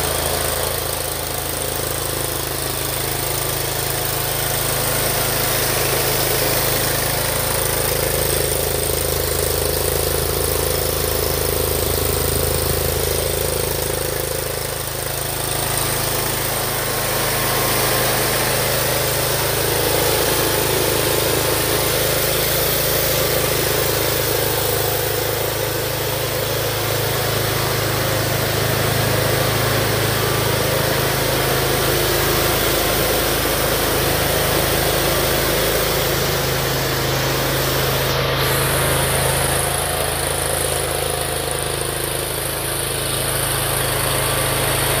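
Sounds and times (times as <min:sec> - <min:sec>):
mower engine idling: 0:00.0 - 0:45.0.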